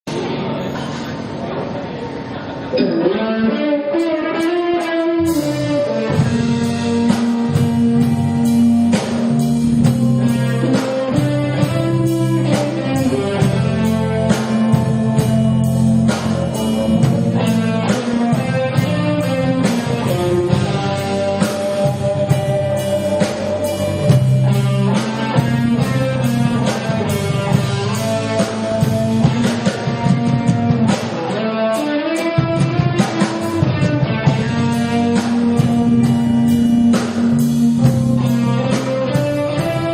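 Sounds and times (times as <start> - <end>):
electric guitar: 0.0 - 39.9
bass guitar: 2.2 - 39.9
drum kit: 3.6 - 39.9.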